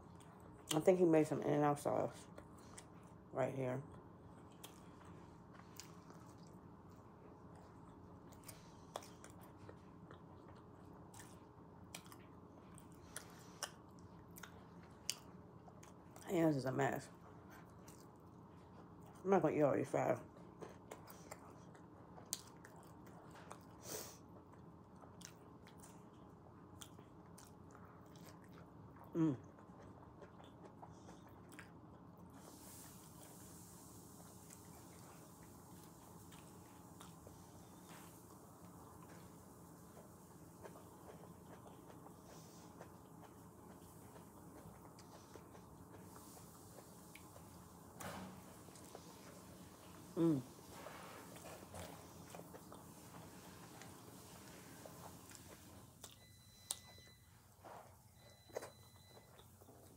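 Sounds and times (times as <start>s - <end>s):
faint chewing of fries: 0.0s - 59.9s.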